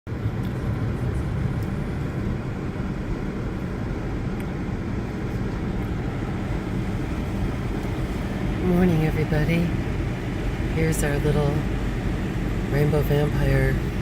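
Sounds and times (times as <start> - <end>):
low outdoor rumble: 0.1 - 14.0.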